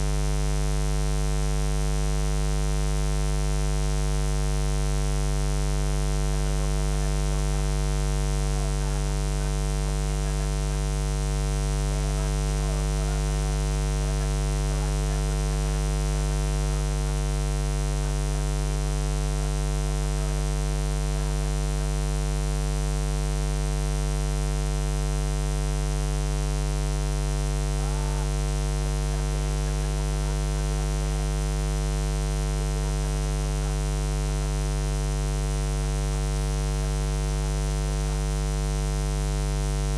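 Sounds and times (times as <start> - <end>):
electrical mains hum: 2.4 - 39.9.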